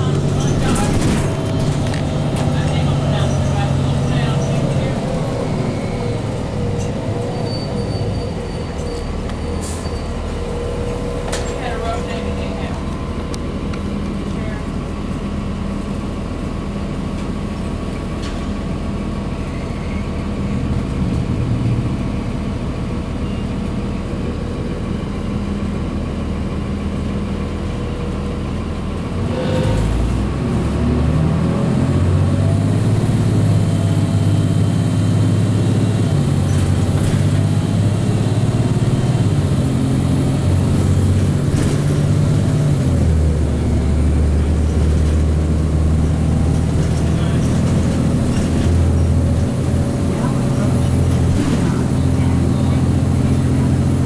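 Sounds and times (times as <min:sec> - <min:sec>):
diesel bus engine: 0:00.0 - 0:54.0.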